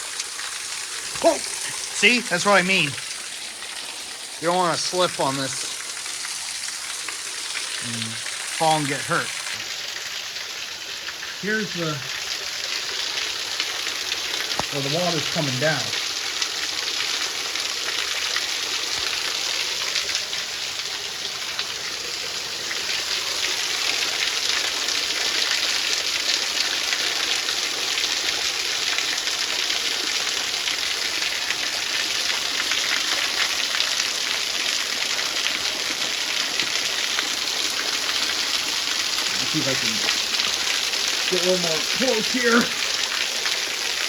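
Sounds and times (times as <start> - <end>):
waterfall splashing onto rock: 0.0 - 44.0.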